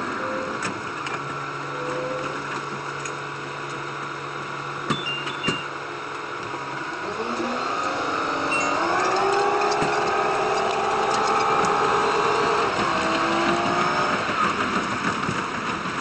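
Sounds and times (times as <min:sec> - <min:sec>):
diesel train engine: 0:00.0 - 0:16.0.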